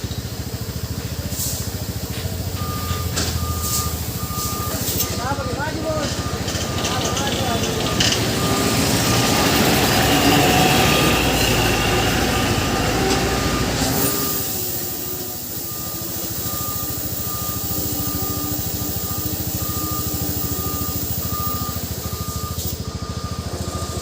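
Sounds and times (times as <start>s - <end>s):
diesel truck engine running: 0.0s - 24.0s
faint high beeps: 2.4s - 24.0s.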